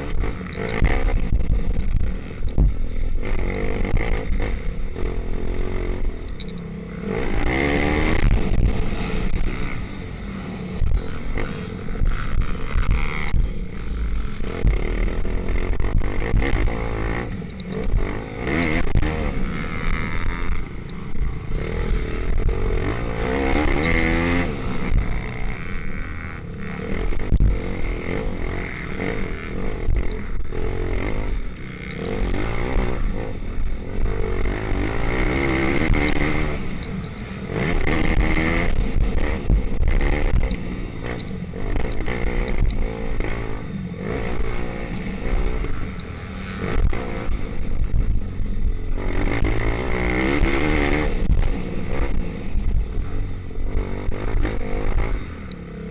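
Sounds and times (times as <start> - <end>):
small motorbike engines revving: 0.0 - 55.9.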